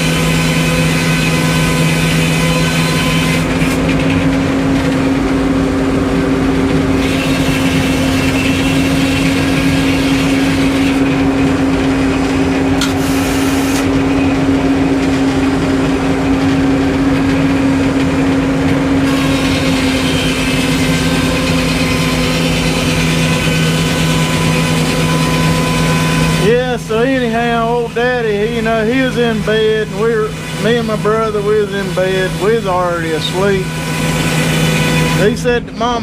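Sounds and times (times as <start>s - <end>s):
sawmill engine humming: 0.0s - 36.0s.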